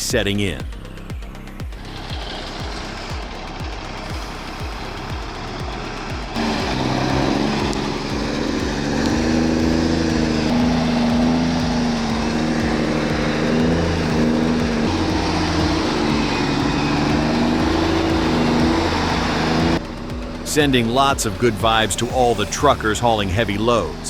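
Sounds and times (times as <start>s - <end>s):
engine running under load: 0.0s - 24.0s.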